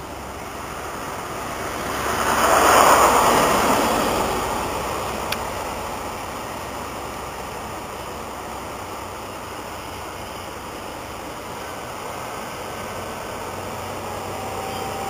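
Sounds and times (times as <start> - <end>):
train passing with rushing roar: 0.0 - 15.0.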